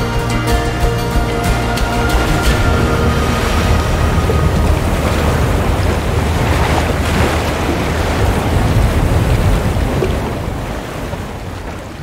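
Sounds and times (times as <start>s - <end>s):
sea surf: 0.0s - 12.0s
wind: 0.0s - 12.0s.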